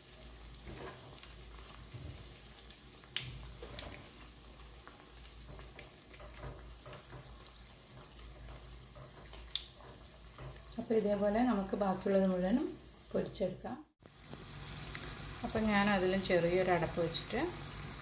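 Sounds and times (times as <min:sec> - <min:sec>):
oil sizzling and bubbling: 0:00.0 - 0:18.0.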